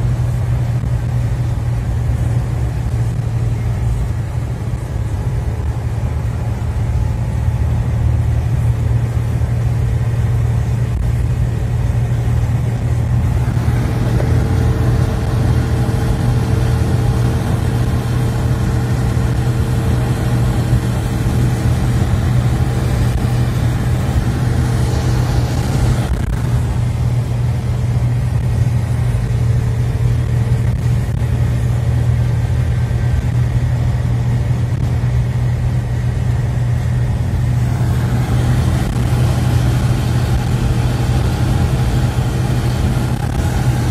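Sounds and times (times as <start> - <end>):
vehicle engine drone: 0.0 - 43.9.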